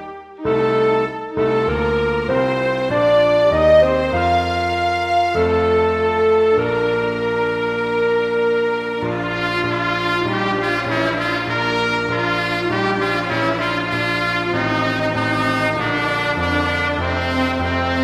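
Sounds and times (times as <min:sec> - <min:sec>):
brass instrumental chords: 0:00.0 - 0:18.0.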